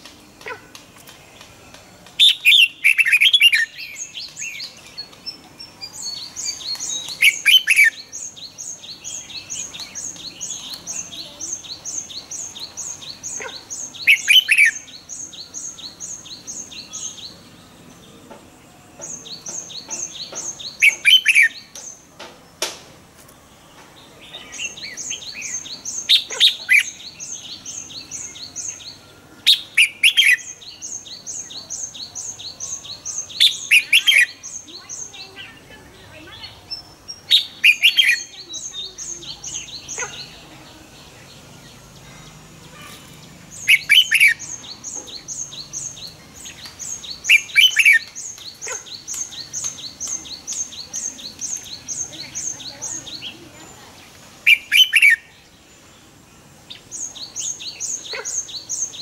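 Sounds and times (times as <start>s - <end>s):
bulbul singing falling phrases: 0.0s - 59.0s.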